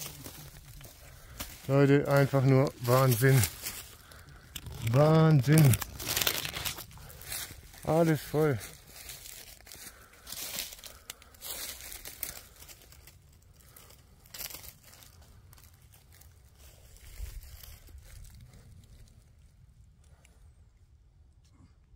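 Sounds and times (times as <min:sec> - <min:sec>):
footsteps in dry leaves: 0:00.0 - 0:19.3.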